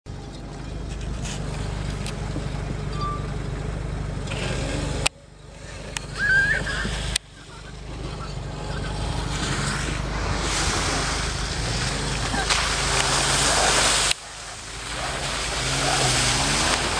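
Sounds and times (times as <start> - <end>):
car engine running: 0.1 - 16.9.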